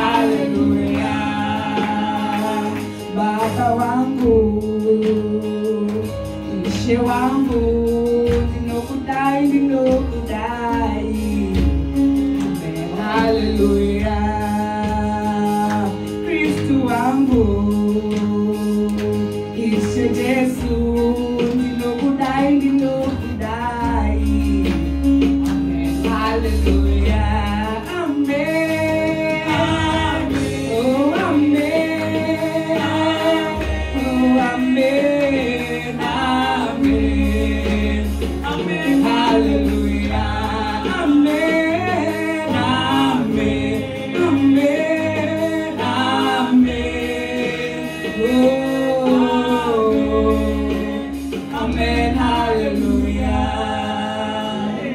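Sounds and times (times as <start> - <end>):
women singing gospel: 0.0 - 54.9.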